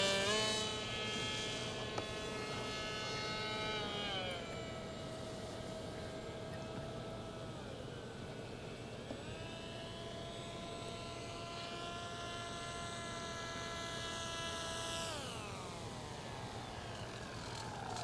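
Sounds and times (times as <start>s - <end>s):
electric model plane motor whine: 0.0s - 18.0s.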